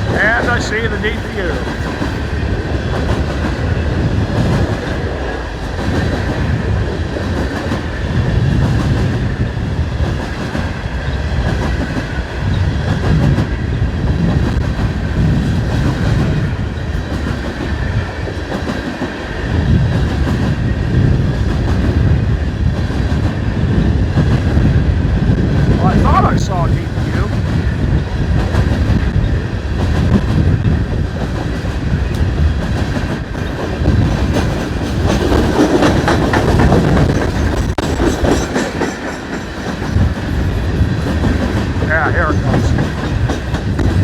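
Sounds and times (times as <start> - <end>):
freight train wheels rumbling on rail: 0.0 - 44.0.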